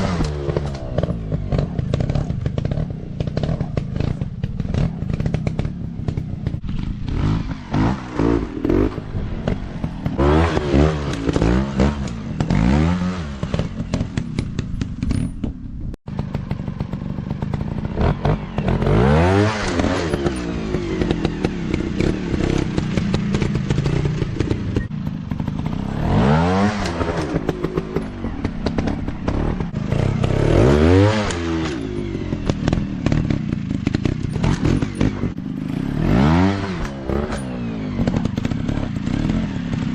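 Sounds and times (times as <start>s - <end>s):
dirt bike engines revving: 0.0s - 15.0s, 16.2s - 39.9s.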